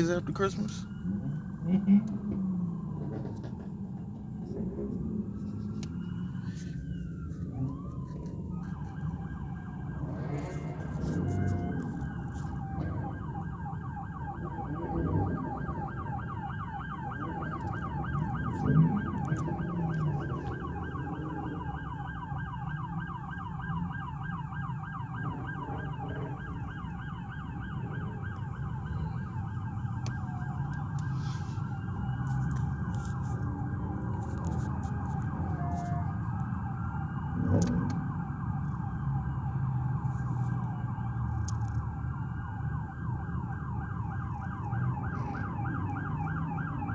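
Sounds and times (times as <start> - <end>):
car engines rumbling: 0.0 - 46.9
police sirens yelping: 0.0 - 46.9.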